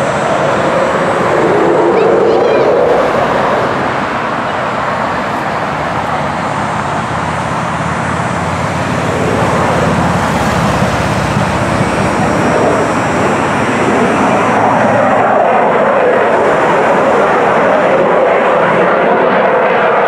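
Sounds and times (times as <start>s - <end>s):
jet aircraft flying overhead: 0.0s - 20.0s.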